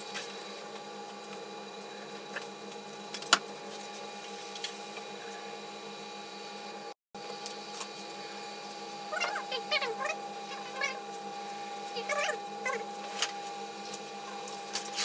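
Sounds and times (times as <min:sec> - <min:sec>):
workshop machine hum: 0:00.0 - 0:15.0.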